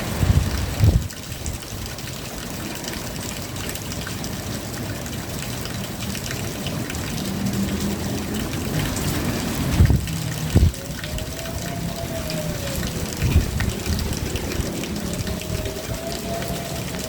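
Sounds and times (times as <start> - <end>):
steady rain falling: 0.0 - 17.0
water trickling and gushing: 0.0 - 17.0.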